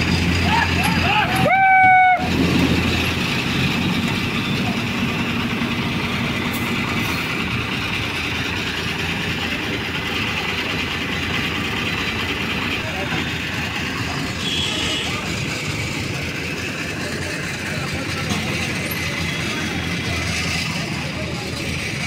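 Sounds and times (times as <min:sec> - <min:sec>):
road traffic noise: 0:00.0 - 0:22.0
vehicle engine idling: 0:00.0 - 0:22.0.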